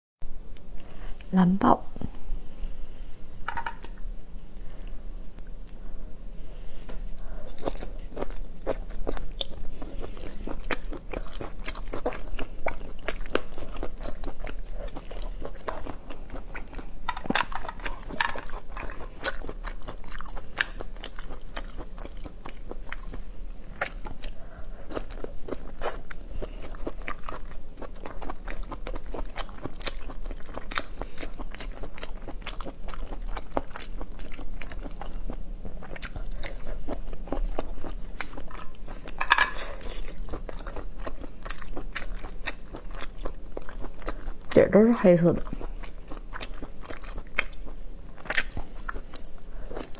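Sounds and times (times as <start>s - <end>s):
low steady hum: 0.2s - 49.9s
person chewing: 6.7s - 44.6s, 45.4s - 49.9s.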